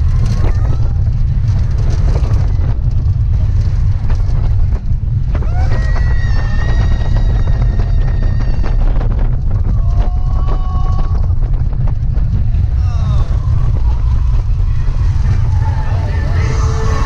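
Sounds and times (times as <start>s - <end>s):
roller coaster wheels rumbling: 0.0s - 17.0s
wind buffeting microphone: 0.0s - 17.0s.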